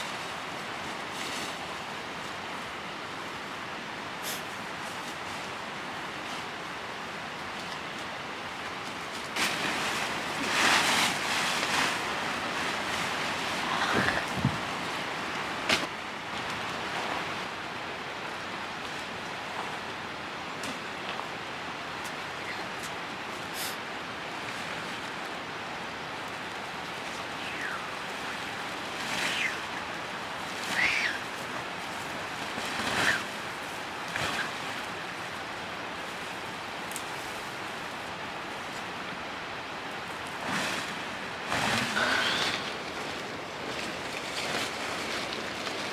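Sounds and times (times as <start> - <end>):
steady hiss: 0.0 - 45.9
steady rushing noise: 0.0 - 45.9
leafy branches rustling and crashing: 7.5 - 45.9.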